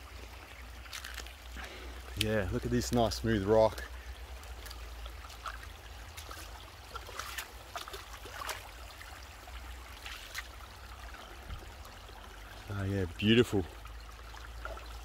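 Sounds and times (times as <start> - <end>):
creek trickling over rocks: 0.0 - 15.0.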